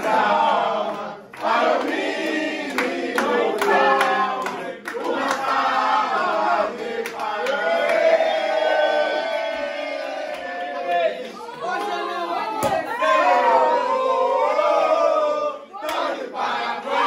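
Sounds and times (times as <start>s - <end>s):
crowd of men singing and chanting: 0.0s - 12.8s, 14.5s - 17.0s.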